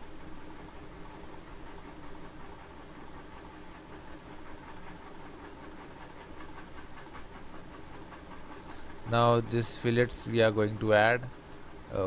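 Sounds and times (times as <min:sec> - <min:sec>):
recording hum and hiss: 0:00.0 - 0:12.0.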